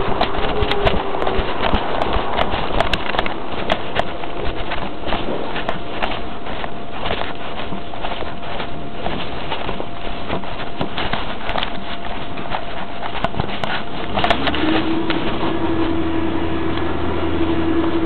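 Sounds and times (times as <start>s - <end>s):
handheld camera knocks and rustling: 0.0s - 14.6s
garbage truck engine whining drone: 0.0s - 18.0s.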